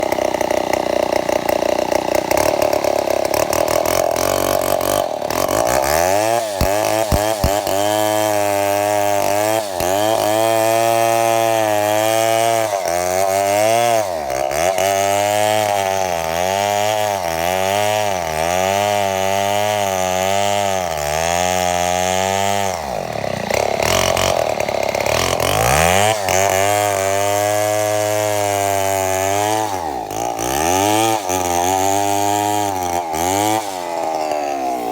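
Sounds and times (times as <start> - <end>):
chainsaw engine running unevenly: 0.0 - 34.9.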